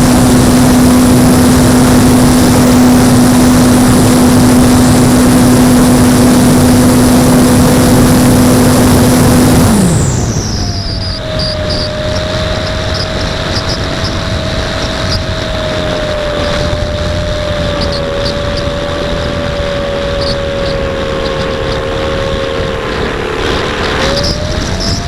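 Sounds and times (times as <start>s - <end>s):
electric motor and propeller whining: 0.0s - 25.0s
wind noise on microphone: 0.0s - 25.0s.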